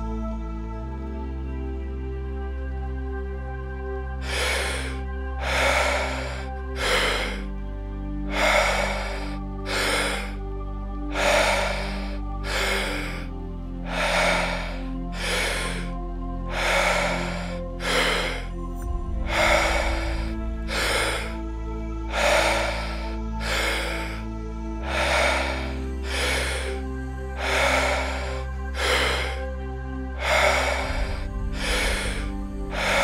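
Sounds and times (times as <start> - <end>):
slow ambient music: 0.0 - 33.0
person breathing deeply: 4.1 - 33.0.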